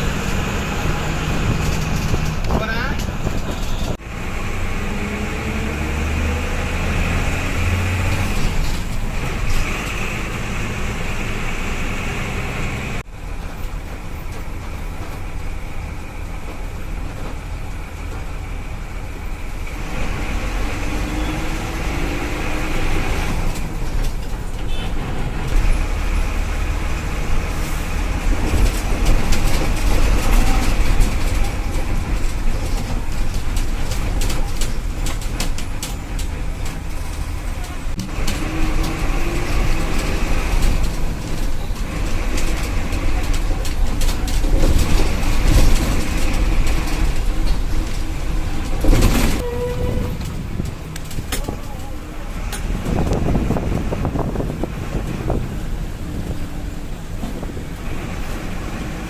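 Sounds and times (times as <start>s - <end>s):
diesel bus engine accelerating: 0.0s - 59.0s
road noise: 0.0s - 59.0s.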